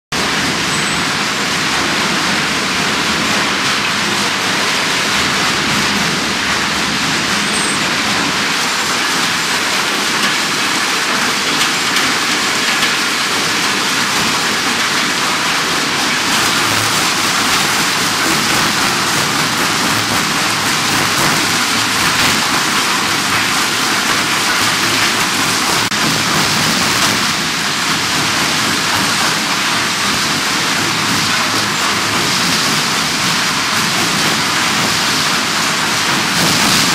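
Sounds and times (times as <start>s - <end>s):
feeder machine rumbling: 0.1s - 36.9s.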